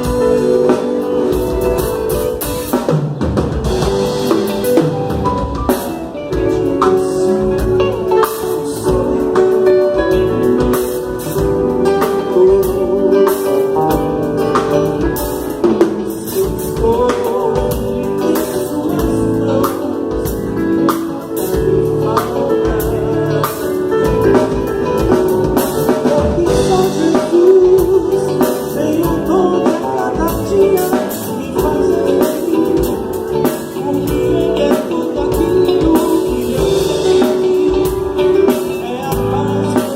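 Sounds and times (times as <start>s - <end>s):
drum kit: 0.0s - 39.9s
guitar: 0.0s - 39.9s
person singing: 3.6s - 39.9s.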